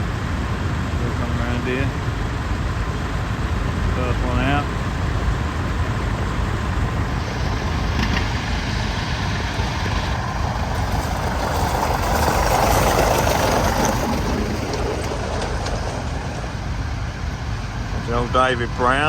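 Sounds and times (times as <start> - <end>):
old tractor engines driving past: 0.0 - 19.0.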